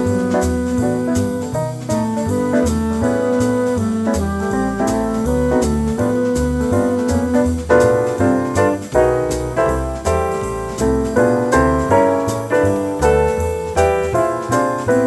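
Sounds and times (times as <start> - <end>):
jazz piano: 0.0 - 15.0.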